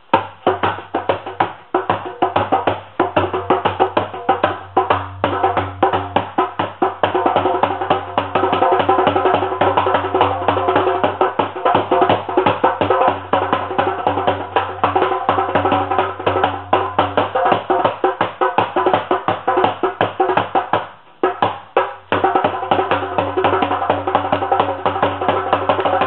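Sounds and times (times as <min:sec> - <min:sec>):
wood block percussion rhythm: 0:00.0 - 0:26.0.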